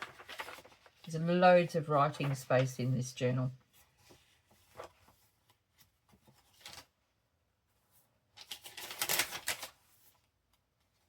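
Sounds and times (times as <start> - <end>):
paper pages rustling: 0.0 - 7.1, 7.7 - 11.0.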